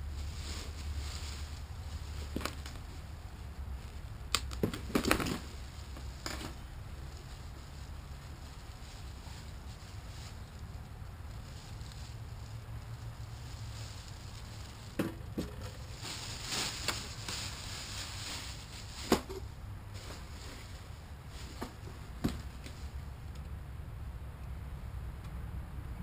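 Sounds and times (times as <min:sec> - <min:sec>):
rustling: 0:00.0 - 0:23.5.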